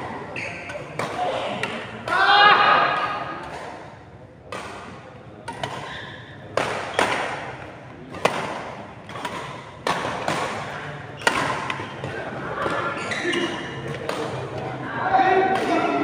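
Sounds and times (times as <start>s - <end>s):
badminton rackets hitting shuttlecock: 0.4s - 14.7s, 15.4s - 16.0s.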